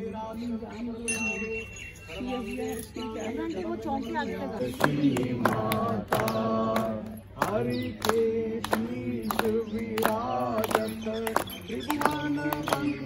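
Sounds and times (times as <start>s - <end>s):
voices chanting a prayer: 0.0s - 13.0s.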